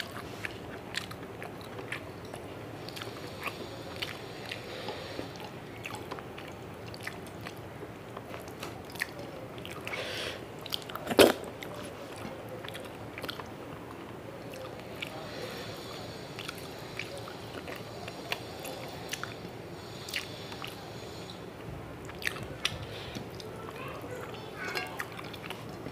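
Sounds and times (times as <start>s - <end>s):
chewing and wet mouth sounds: 0.0s - 25.9s.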